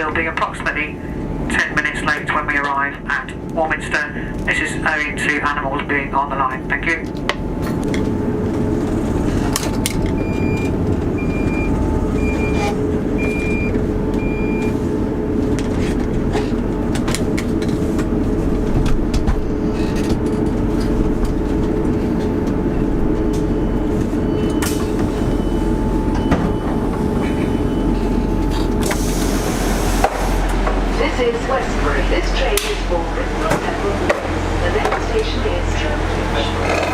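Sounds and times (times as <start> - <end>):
train rumbling inside carriage: 0.0 - 36.9.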